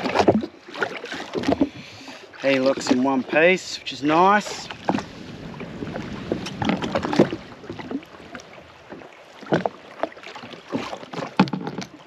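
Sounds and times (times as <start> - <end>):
water slapping against jet ski: 0.0 - 12.0.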